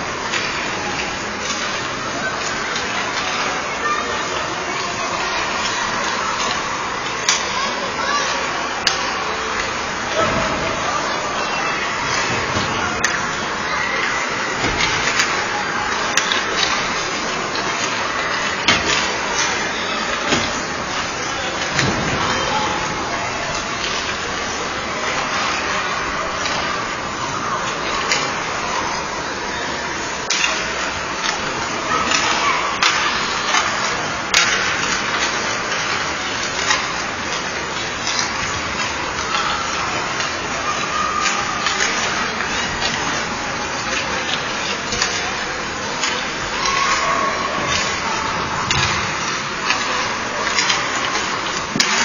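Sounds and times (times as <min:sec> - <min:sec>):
hockey sticks clacking on pucks: 0:00.0 - 0:52.0
ice rink din: 0:00.0 - 0:52.0.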